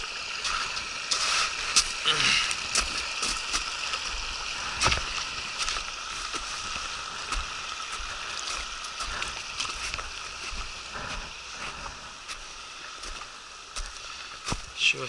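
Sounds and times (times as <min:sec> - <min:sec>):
river water rushing: 0:00.0 - 0:15.0
wind: 0:00.0 - 0:15.0
footsteps on gravel and snow: 0:00.3 - 0:14.8.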